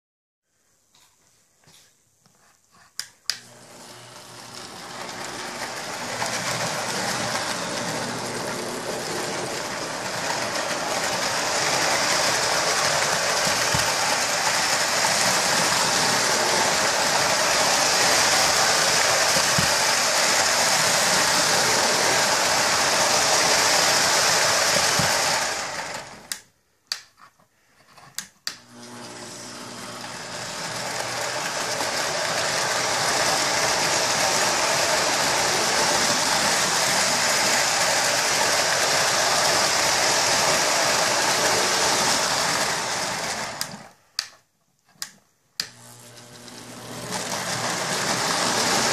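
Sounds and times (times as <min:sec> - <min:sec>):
toy train motor whirring on track: 0:03.3 - 0:26.4, 0:28.6 - 0:44.0, 0:45.0 - 0:48.9.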